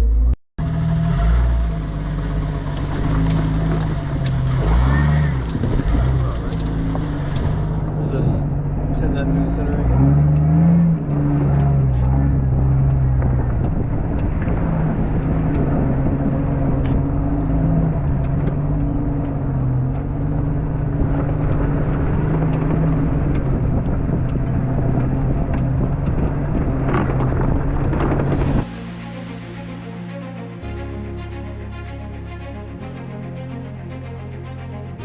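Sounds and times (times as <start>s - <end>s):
off-road vehicle engine running: 0.0s - 29.6s.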